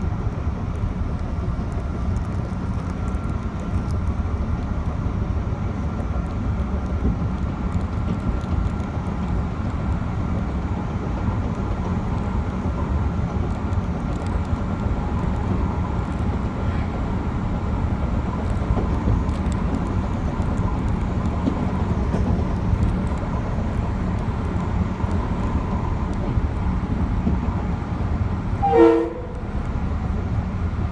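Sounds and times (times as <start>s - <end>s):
train rumbling along track: 0.0s - 30.9s.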